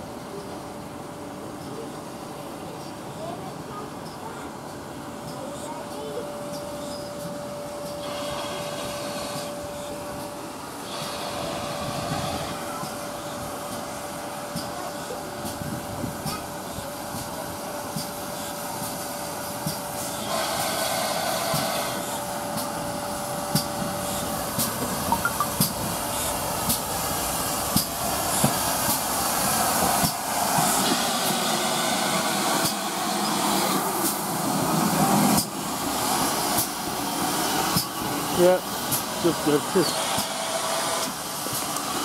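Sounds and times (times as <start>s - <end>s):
steam hissing: 4.9s - 42.0s.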